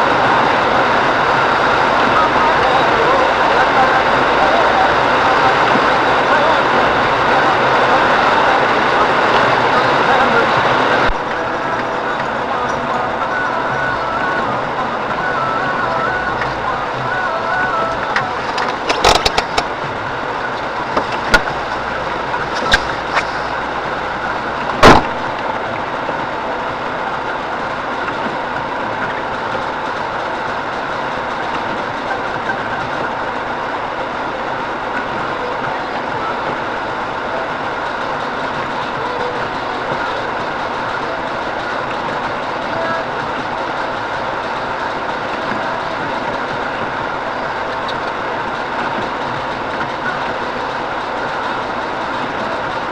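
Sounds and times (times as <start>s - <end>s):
car running noise from inside: 0.0s - 52.9s.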